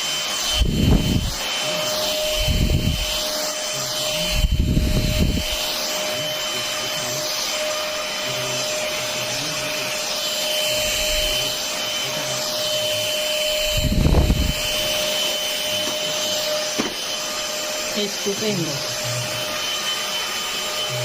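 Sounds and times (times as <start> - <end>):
stick vacuum running: 0.0 - 21.0.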